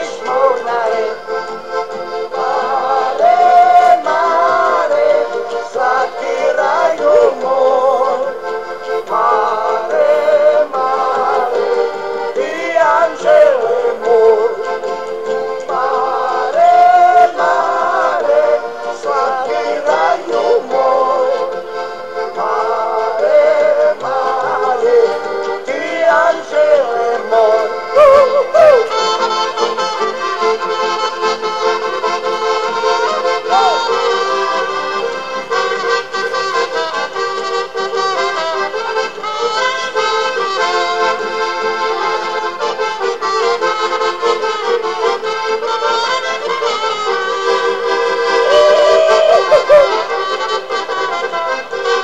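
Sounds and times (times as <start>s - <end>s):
band music with accordion melody: 0.0s - 52.0s.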